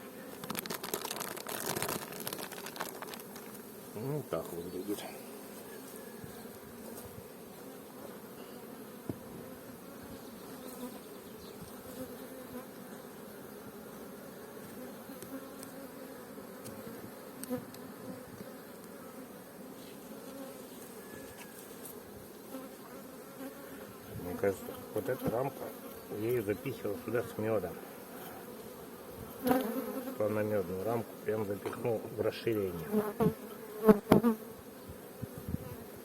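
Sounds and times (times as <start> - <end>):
honeybees humming: 0.0 - 36.0.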